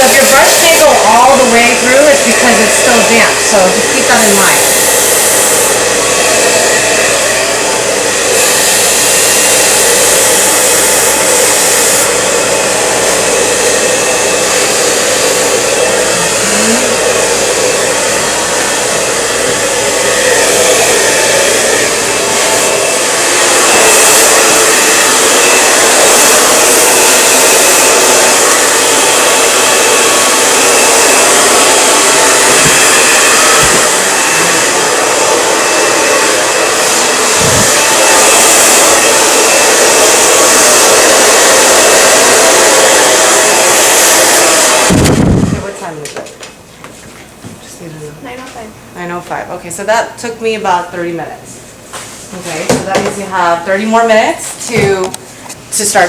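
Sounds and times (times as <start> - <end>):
hair dryer blowing: 0.0 - 56.0.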